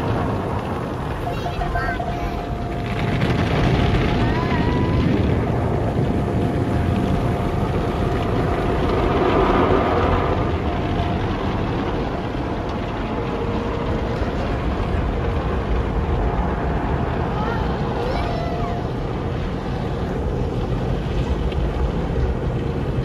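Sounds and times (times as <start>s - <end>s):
faint machinery tone: 0.0s - 23.0s.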